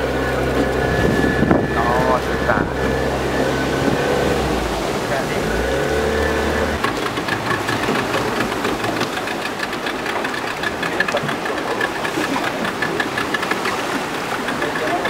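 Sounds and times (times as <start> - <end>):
boat motor idling: 0.0 - 15.0.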